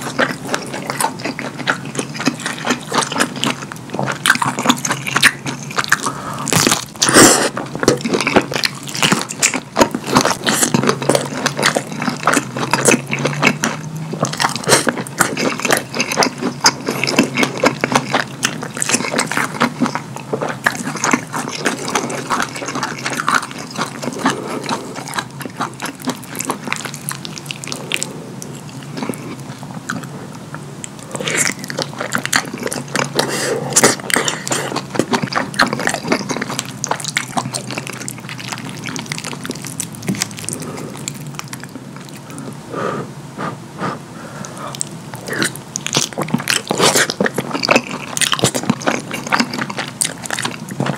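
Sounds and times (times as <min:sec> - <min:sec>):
wet chewing and lip smacking: 0:00.0 - 0:42.5, 0:43.8 - 0:50.9.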